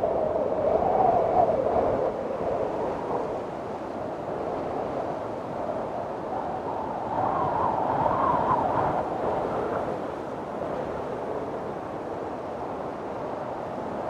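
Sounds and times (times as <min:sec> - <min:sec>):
strong wind howling in gusts: 0:00.0 - 0:14.0.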